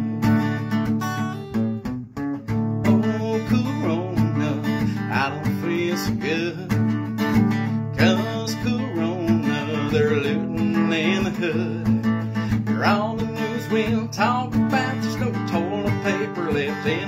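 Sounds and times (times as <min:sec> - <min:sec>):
acoustic guitar strumming: 0:00.0 - 0:17.0
man singing: 0:02.8 - 0:17.0.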